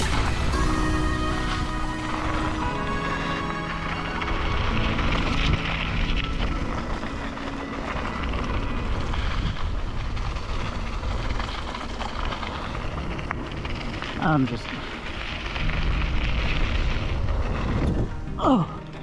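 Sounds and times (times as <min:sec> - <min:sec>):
bike tyres on packed dirt: 0:00.0 - 0:19.0
wind rushing over microphone: 0:00.0 - 0:19.0.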